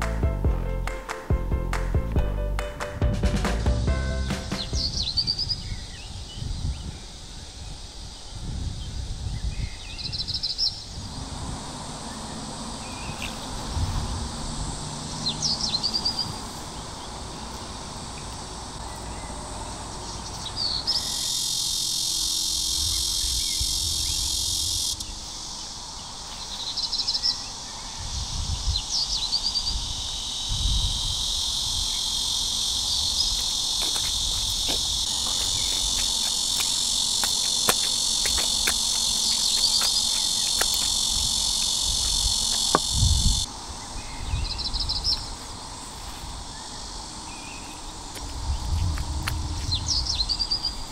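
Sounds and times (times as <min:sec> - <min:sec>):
insect chirring: 0:04.5 - 0:50.9.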